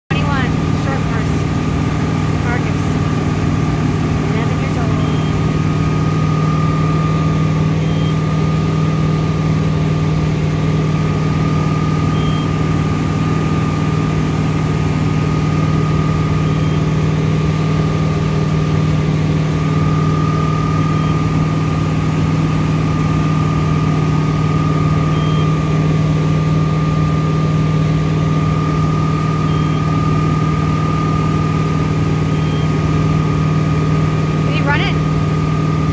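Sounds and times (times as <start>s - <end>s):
boat engine humming: 0.1s - 35.9s.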